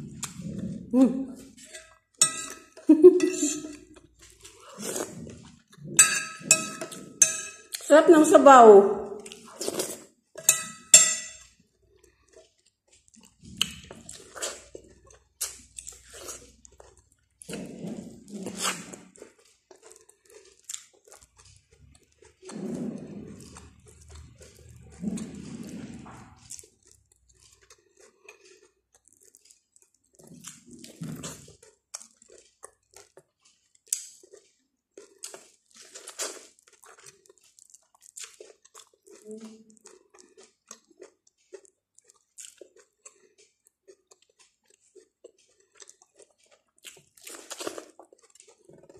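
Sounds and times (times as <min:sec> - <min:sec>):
biting and chewing corn: 0:00.0 - 0:07.9, 0:09.2 - 0:48.9.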